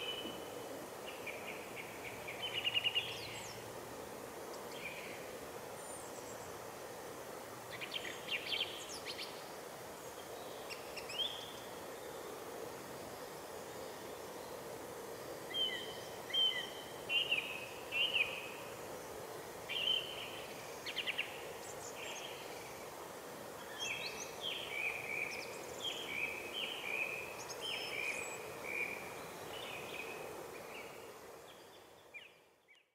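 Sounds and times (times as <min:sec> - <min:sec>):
background hiss: 0:00.0 - 0:32.9.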